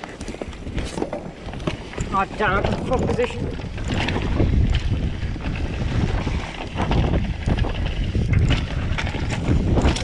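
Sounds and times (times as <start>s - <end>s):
mountain bike rattling: 0.0s - 10.0s
wind buffeting microphone: 0.0s - 10.0s.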